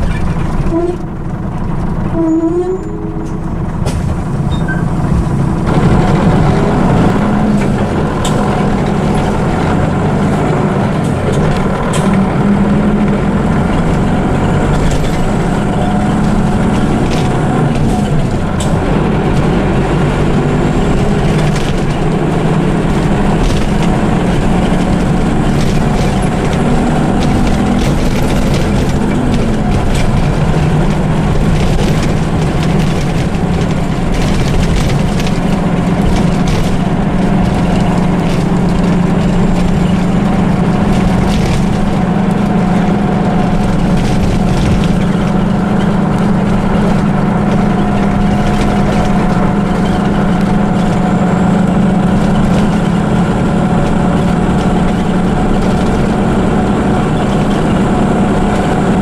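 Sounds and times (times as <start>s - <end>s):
bus engine humming: 0.0s - 59.0s.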